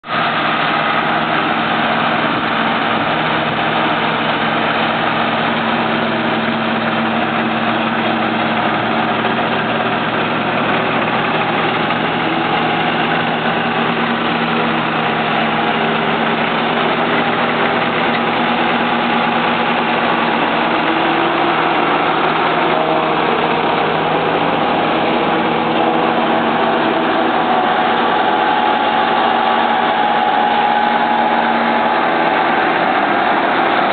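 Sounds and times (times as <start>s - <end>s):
harvester machinery droning: 0.0s - 33.9s.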